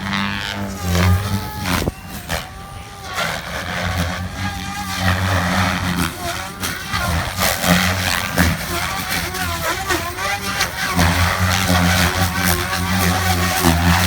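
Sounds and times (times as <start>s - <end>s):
rc helicopter motor whine: 0.0s - 14.0s.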